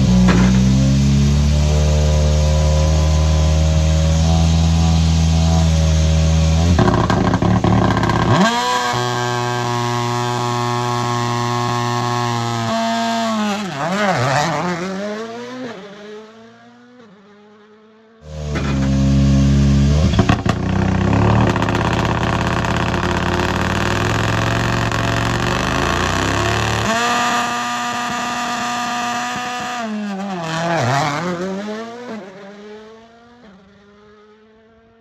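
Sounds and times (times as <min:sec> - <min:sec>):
rally car engine revving: 0:00.0 - 0:17.5, 0:18.2 - 0:34.9
car accelerating through gears: 0:00.0 - 0:34.9.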